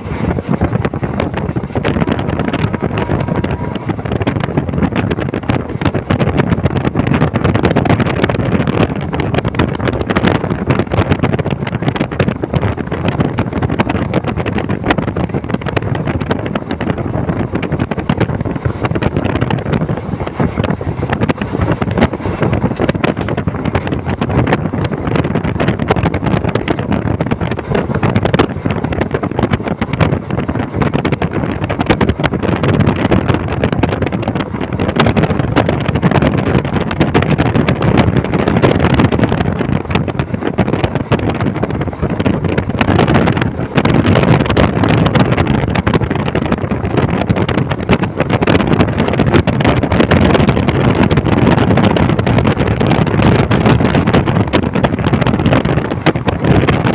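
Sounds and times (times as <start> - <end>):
train wheels clattering on track: 0.0 - 56.9
wind buffeting microphone: 0.0 - 56.9.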